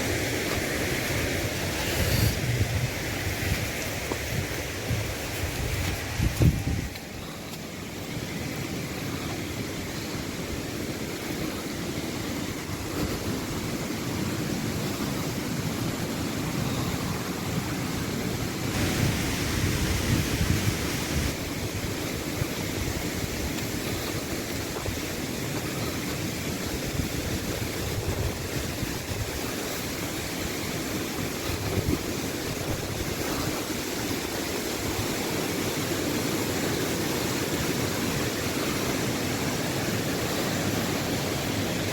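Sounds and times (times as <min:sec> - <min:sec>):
stream rushing: 0:00.0 - 0:41.9.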